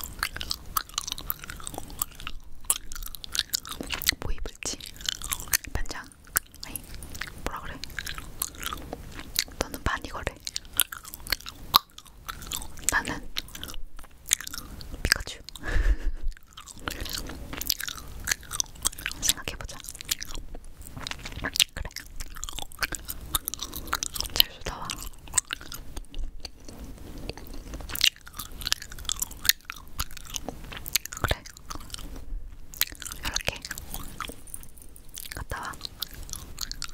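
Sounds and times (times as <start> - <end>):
gum chewing mouth clicks: 0.0 - 36.9.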